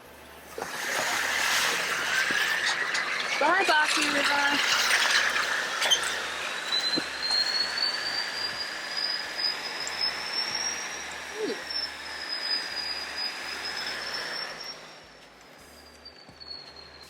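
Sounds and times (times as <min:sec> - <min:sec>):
road and engine noise: 0:00.0 - 0:17.0
thin high whine: 0:00.0 - 0:17.0.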